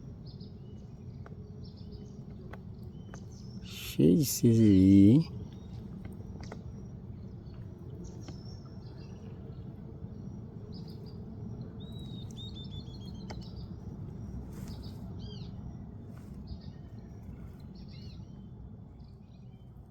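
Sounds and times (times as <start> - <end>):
low background noise: 0.0 - 17.6.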